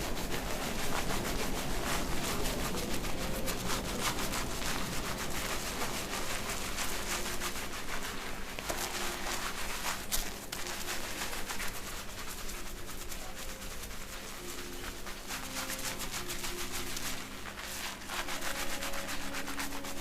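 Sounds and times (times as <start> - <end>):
fingers rubbing lathered scalp: 0.0 - 20.0.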